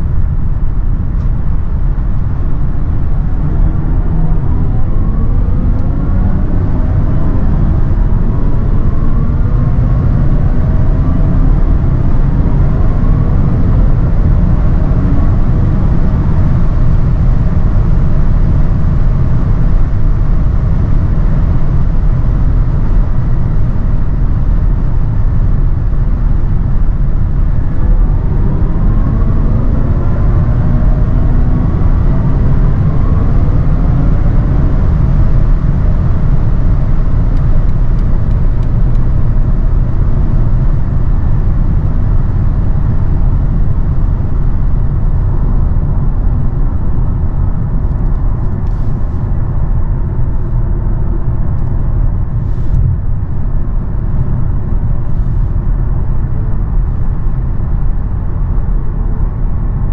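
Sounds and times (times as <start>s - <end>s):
tyre and wind rumble in car: 0.0s - 59.9s.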